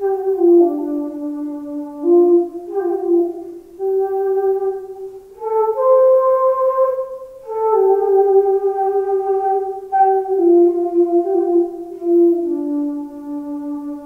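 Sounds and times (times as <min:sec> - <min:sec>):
flute playing slow melody: 0:00.0 - 0:14.0.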